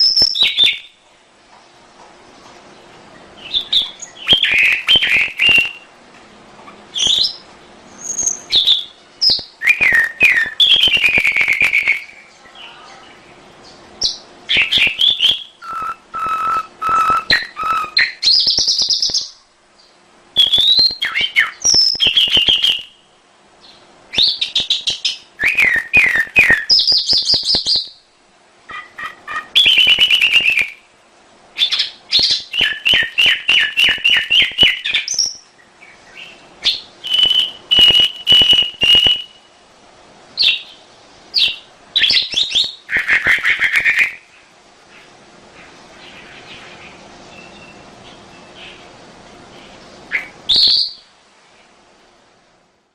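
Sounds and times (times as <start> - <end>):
canary singing trills: 0.0 - 1.0, 3.2 - 6.0, 6.6 - 28.1, 28.7 - 30.9, 31.6 - 39.6, 40.4 - 51.8.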